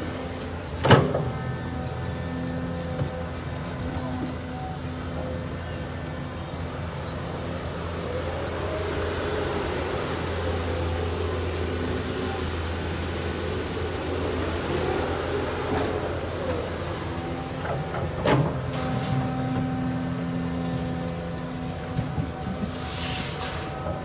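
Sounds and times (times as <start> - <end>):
excavator diesel engine humming: 0.0 - 24.0.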